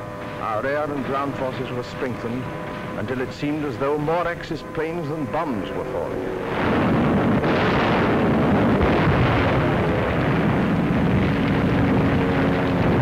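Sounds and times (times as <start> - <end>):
bomb blasts and fire roar: 0.2 - 13.0.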